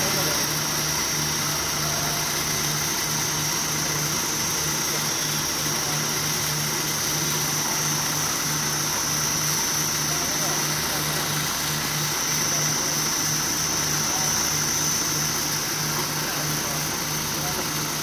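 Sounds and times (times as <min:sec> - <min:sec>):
high machine whine: 0:00.0 - 0:18.0
machine hum: 0:00.0 - 0:18.0.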